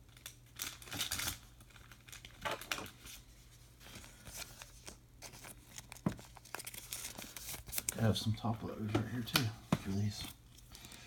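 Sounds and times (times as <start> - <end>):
cardboard card rustling: 0.2 - 8.2, 8.8 - 11.0.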